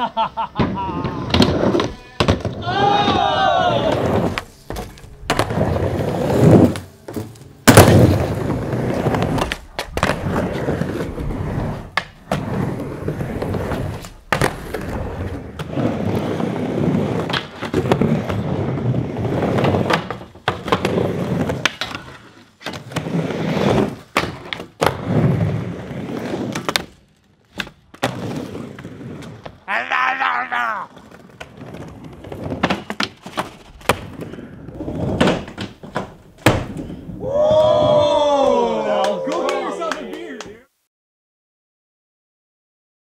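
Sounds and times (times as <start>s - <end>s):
skateboard wheels rolling on wood: 0.1s - 38.6s
skateboard grinding on coping: 0.6s - 27.0s, 27.6s - 38.3s
skateboard slaps and landings: 0.6s - 29.6s, 30.9s - 38.2s.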